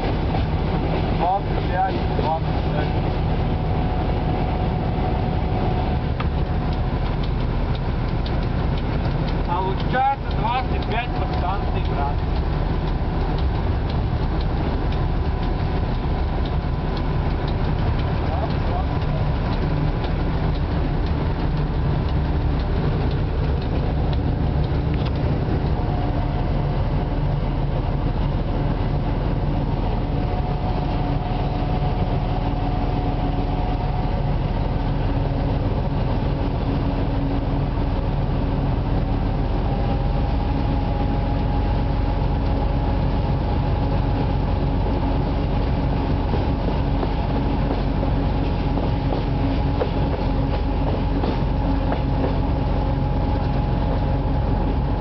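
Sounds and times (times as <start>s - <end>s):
diesel locomotive engine running: 0.0s - 55.0s
wheels rumbling on rails: 0.0s - 55.0s.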